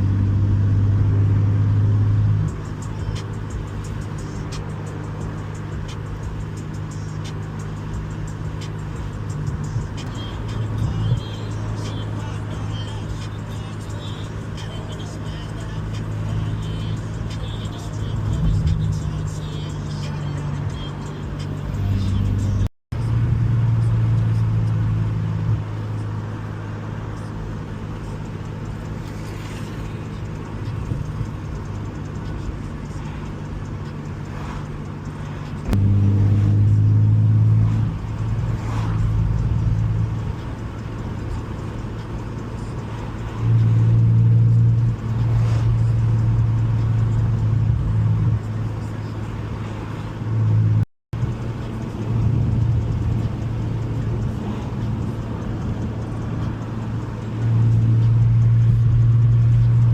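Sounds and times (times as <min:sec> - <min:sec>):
car exhaust drone: 0:00.0 - 0:59.9.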